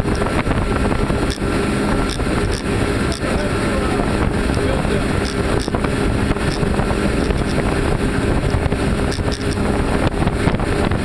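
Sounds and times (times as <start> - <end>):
outboard motors droning: 0.0 - 11.0
rushing water: 0.0 - 11.0
wind noise on microphone: 0.0 - 11.0.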